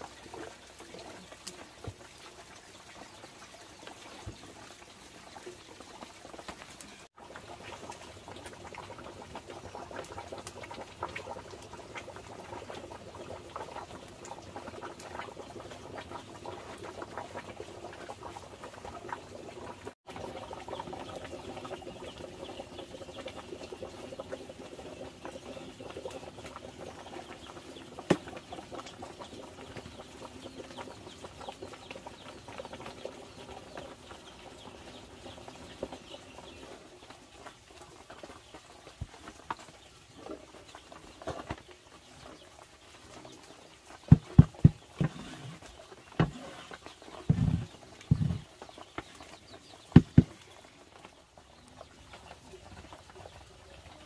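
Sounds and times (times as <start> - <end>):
water boiling and bubbling: 0.0 - 54.0.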